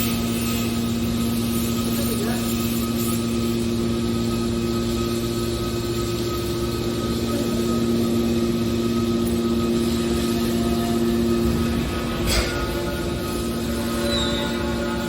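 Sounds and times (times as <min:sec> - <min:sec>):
hydraulic motor and pump humming: 0:00.0 - 0:15.0.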